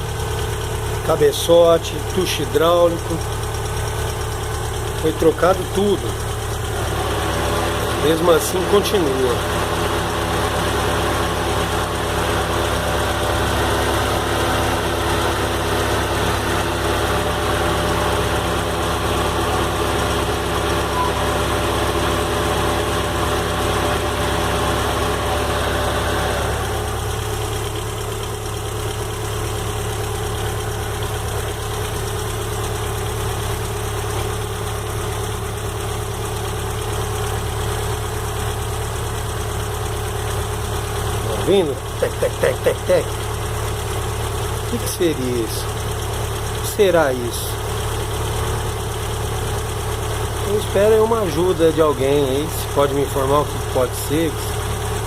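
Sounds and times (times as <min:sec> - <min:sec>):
car engine idling: 0:00.0 - 0:55.0
engine ticking: 0:00.0 - 0:55.0.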